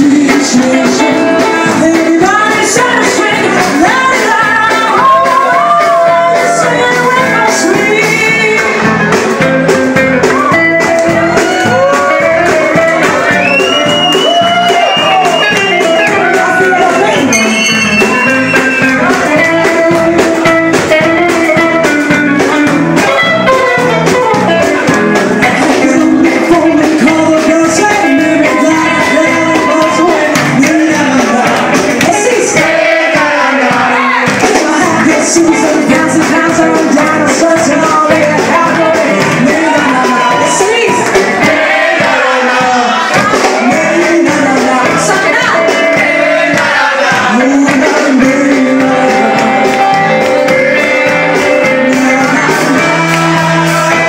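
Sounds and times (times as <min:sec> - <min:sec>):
drums: 0:00.0 - 0:54.0
person singing: 0:00.0 - 0:54.0.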